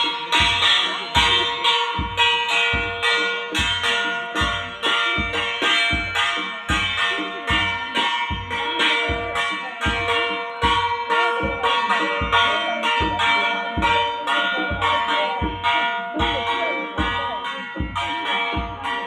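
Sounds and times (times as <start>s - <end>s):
drum beats: 0.0s - 19.0s
ringing metal cymbals: 0.0s - 19.0s
wavering melody: 0.0s - 19.0s.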